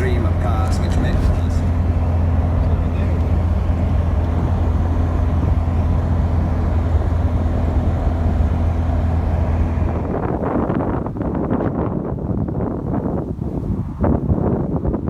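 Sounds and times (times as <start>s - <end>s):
car engine droning: 0.0s - 15.0s
gusty wind noise: 0.0s - 15.0s.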